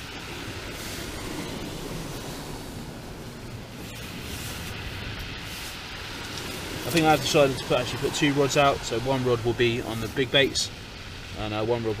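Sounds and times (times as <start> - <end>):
sea surf on shingle beach: 0.0 - 12.0
wind: 0.0 - 12.0.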